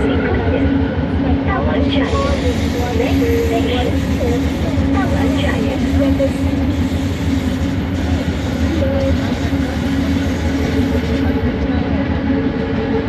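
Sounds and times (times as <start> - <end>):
train motor hum: 0.0 - 13.0.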